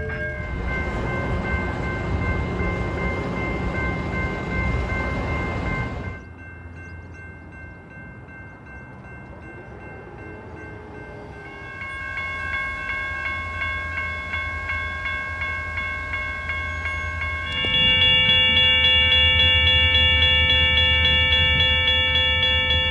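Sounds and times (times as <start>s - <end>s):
railroad crossing bell ringing: 0.0s - 22.9s.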